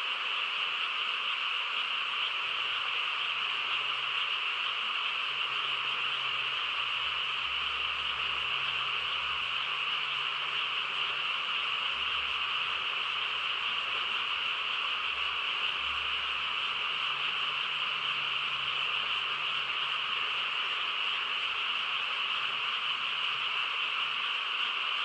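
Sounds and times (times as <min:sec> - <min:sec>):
frogs chorus: 0:00.0 - 0:25.0.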